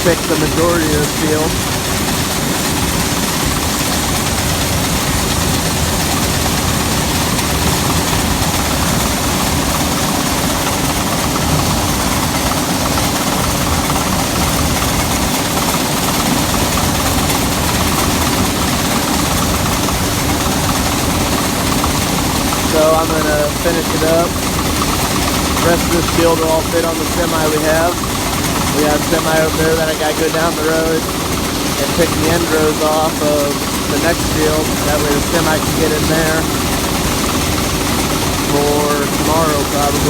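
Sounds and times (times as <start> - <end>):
combine engine drone: 0.0 - 40.0.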